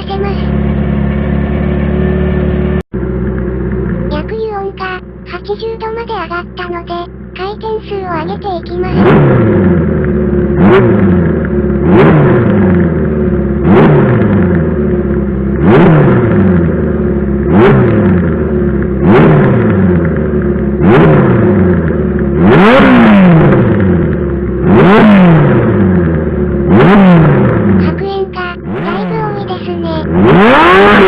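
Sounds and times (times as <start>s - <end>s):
motorcycle engine revving: 0.3s - 4.1s, 8.9s - 27.9s, 28.5s - 31.0s.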